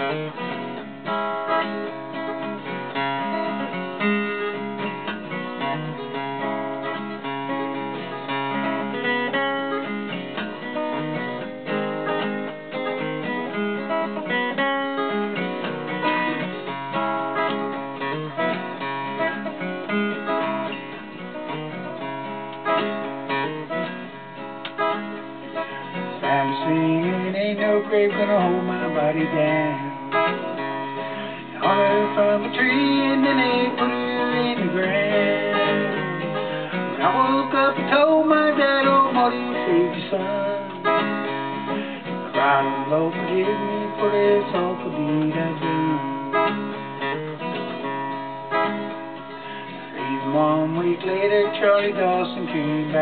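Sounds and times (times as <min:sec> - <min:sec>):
acoustic guitar picking and strumming: 0:00.0 - 0:53.0.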